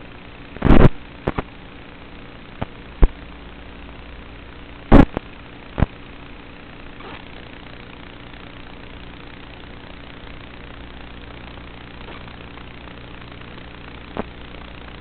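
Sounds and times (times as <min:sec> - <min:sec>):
loud static crackles: 0:00.0 - 0:15.0
motor and electronics hum: 0:00.0 - 0:15.0.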